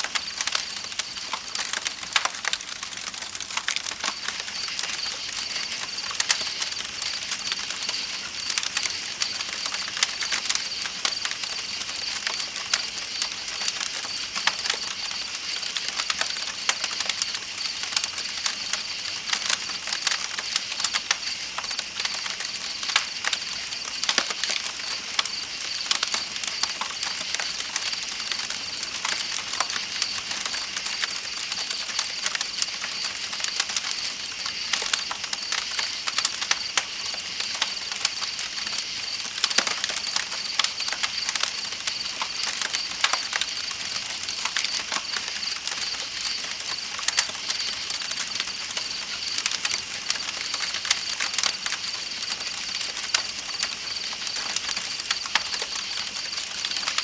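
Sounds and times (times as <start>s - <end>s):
campfire crackling: 0.0s - 57.0s
night insects chirring: 0.0s - 57.0s.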